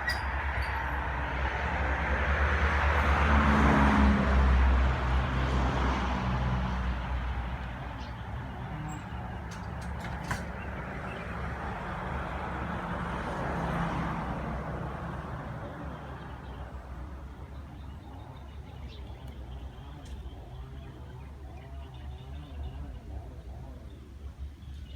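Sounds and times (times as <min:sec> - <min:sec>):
vehicle engine rumble: 0:00.0 - 0:24.9.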